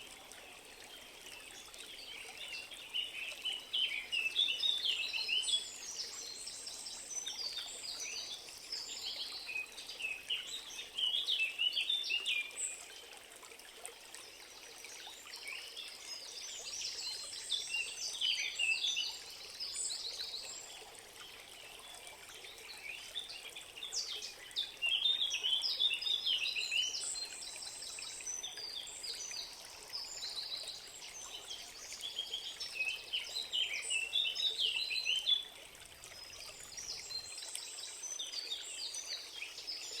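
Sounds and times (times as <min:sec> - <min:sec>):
faint flowing water: 0:00.0 - 0:40.0.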